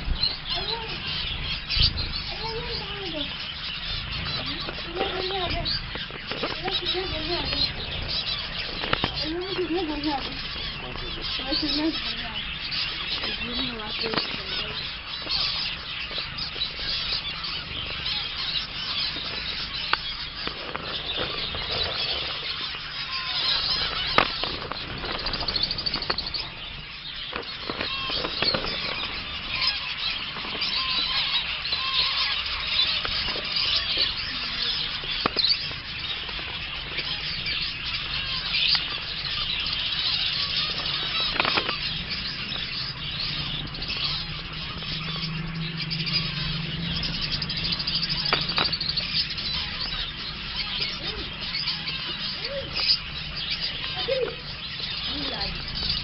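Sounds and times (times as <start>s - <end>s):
finches chattering: 0.0s - 56.0s.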